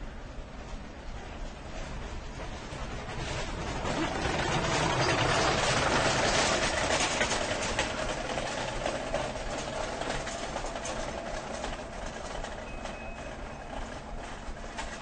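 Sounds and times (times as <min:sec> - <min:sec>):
train rushing rumble: 0:00.0 - 0:15.0
train whining tone: 0:00.0 - 0:15.0
train clicks: 0:00.2 - 0:15.0.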